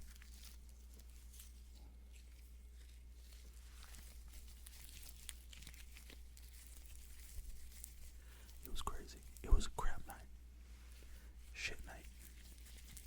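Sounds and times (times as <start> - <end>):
gloved hands crinkling and rubbing: 0.0 - 13.0
steady low hum: 0.0 - 13.0.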